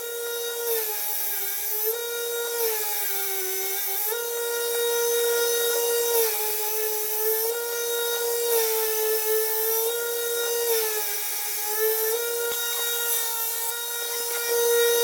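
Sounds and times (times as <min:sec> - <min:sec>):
electric grinder grinding steel: 0:00.0 - 0:15.0.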